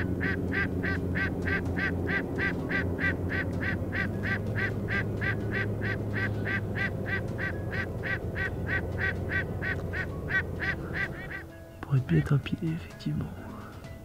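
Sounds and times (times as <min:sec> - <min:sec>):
waterfowl honking: 0:00.0 - 0:11.6.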